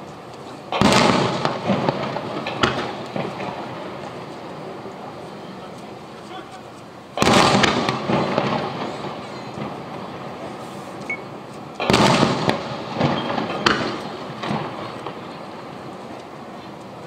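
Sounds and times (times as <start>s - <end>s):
firework shells booming: 0.0s - 5.3s, 7.1s - 17.0s
sharp firework cracks: 0.0s - 6.4s, 7.1s - 17.0s.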